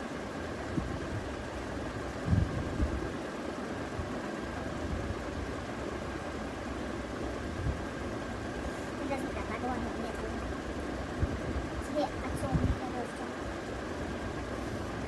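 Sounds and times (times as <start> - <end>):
faint high hum: 0.0 - 15.0
low rumbling background noise: 0.0 - 15.0.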